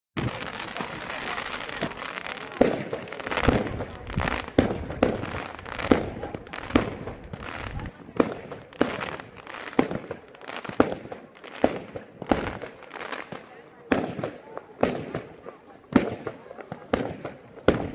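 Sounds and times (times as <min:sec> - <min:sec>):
fireworks bangs: 0:00.2 - 0:17.9
fireworks crackling: 0:00.2 - 0:17.9.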